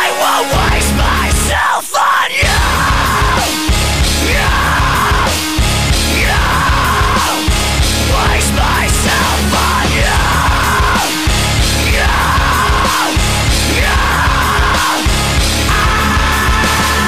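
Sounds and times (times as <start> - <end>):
high wailing line: 0.0 - 7.5, 8.1 - 17.0
loud music with heavy bass: 0.0 - 17.0.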